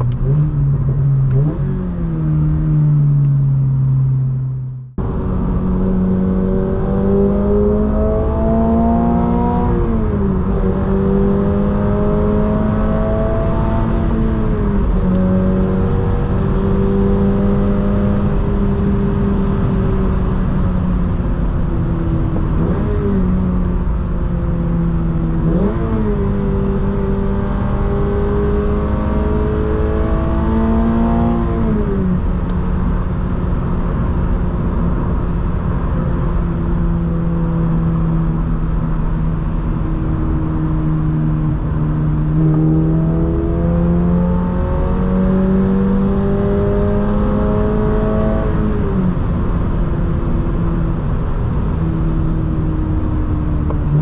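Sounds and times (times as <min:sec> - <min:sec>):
car engine revving: 0:00.0 - 0:54.0
road rumble: 0:00.0 - 0:54.0.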